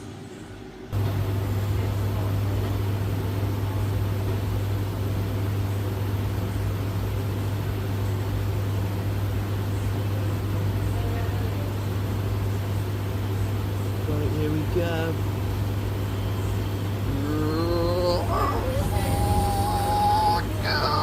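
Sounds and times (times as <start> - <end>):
washing machine spinning: 0.9 - 21.0.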